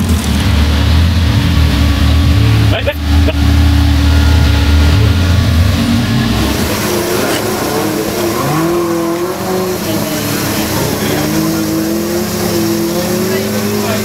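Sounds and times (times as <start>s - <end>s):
engine revving under load: 0.0s - 14.0s.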